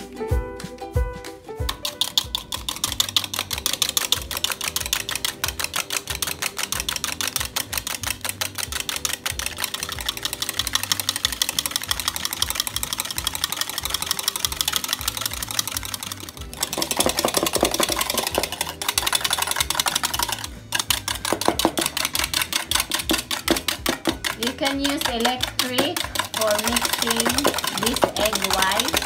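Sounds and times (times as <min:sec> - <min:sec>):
whisk clicking against bowl: 0:01.6 - 0:29.0.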